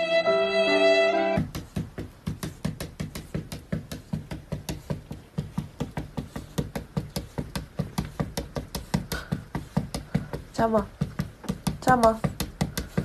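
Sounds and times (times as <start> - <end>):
cat paws knocking on window: 1.4 - 13.0.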